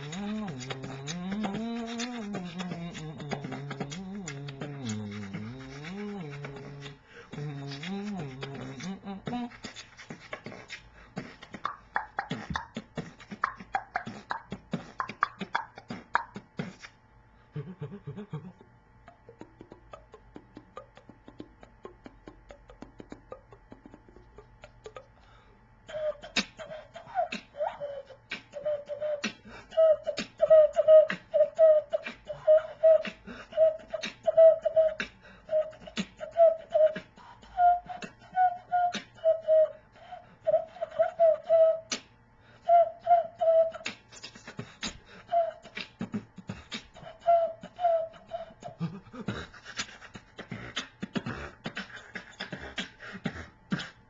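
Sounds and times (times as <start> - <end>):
person beatboxing: 0.0 - 17.0, 17.6 - 25.1, 25.9 - 38.2, 38.9 - 39.2, 43.7 - 54.0.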